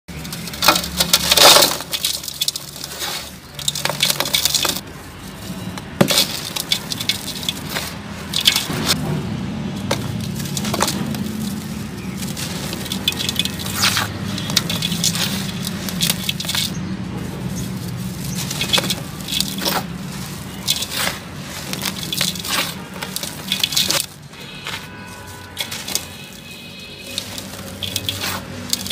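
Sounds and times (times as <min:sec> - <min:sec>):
grit falling into metal basin: 0:00.1 - 0:04.9, 0:06.0 - 0:09.0, 0:09.7 - 0:28.9
cement chunks crushed by hand: 0:00.1 - 0:28.9.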